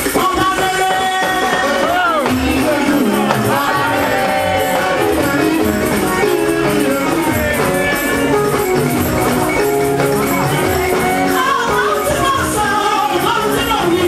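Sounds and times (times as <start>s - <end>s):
live gospel band music: 0.0s - 14.0s.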